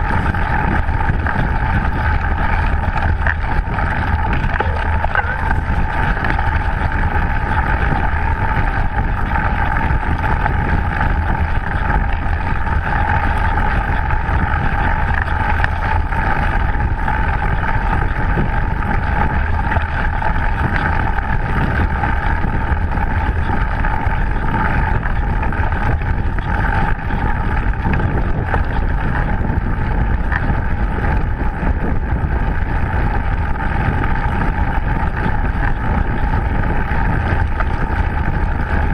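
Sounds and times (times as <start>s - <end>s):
bike tyres rumbling on dirt trail: 0.0s - 38.9s
wind rush on microphone: 0.0s - 38.9s.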